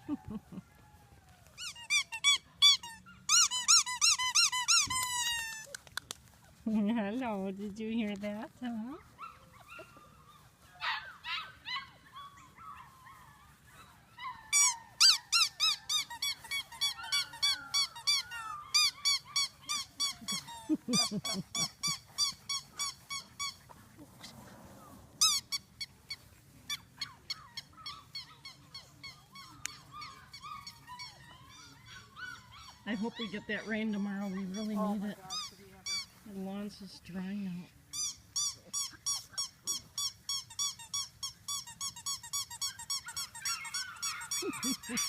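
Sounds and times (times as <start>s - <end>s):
puppies yelping and squeaking: 1.5s - 6.1s, 9.0s - 36.2s, 37.9s - 45.0s.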